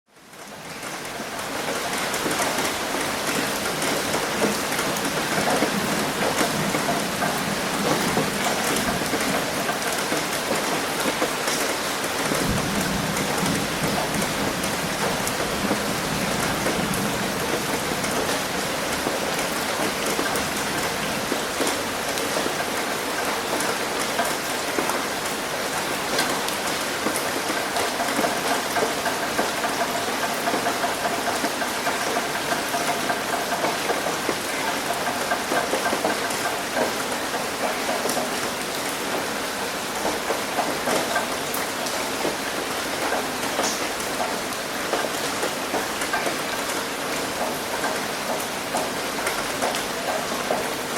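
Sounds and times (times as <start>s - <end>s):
steady rain hiss: 0.2s - 50.9s
raindrop ticks: 1.6s - 50.9s.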